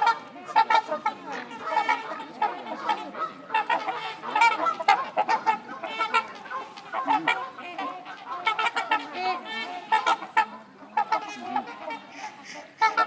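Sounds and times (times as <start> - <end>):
swans honking: 0.0 - 13.0.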